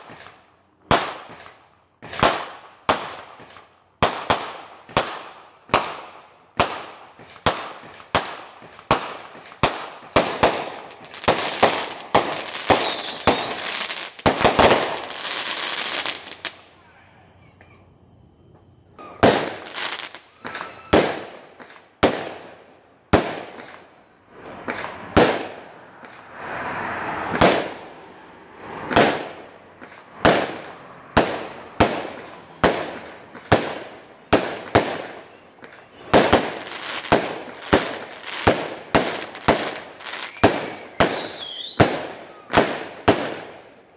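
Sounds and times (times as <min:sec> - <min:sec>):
fireworks banging: 0:00.0 - 0:16.7, 0:18.9 - 0:43.8
fireworks crackling: 0:00.0 - 0:17.0, 0:18.9 - 0:43.9.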